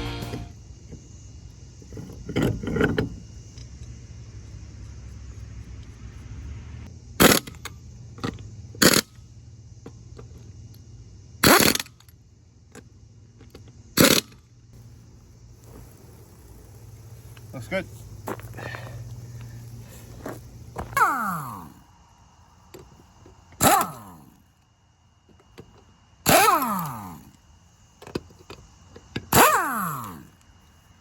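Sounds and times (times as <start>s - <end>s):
low steady hum: 0.0s - 26.2s.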